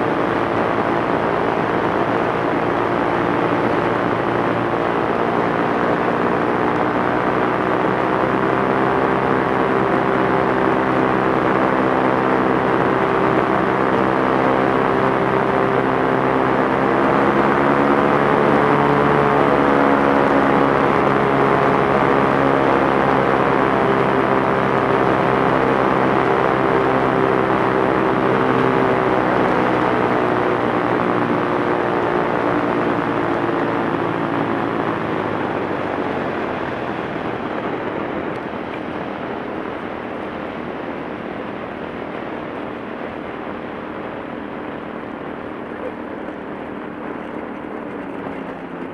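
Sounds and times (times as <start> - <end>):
light airplane engine droning: 0.0 - 48.9.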